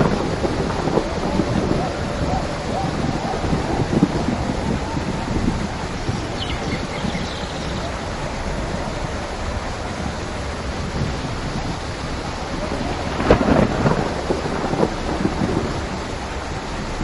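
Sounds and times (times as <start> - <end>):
steady rain: 0.0 - 17.0
thunderclap rumbling: 0.0 - 17.0.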